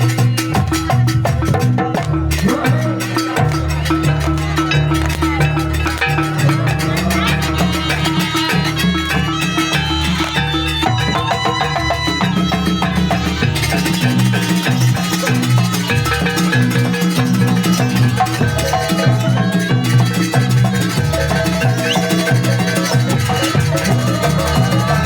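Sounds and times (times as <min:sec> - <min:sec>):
drums: 0:00.0 - 0:25.0
percussion ensemble music: 0:00.0 - 0:25.0
ringing metal keyed percussion: 0:00.0 - 0:25.0
gongs: 0:02.0 - 0:25.0.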